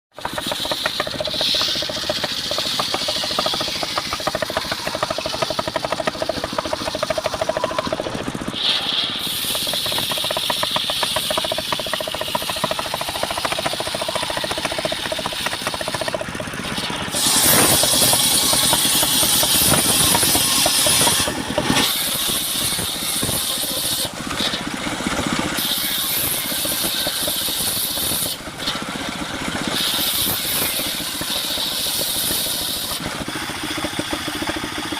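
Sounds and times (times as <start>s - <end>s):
circular sawmill running: 0.1s - 34.9s.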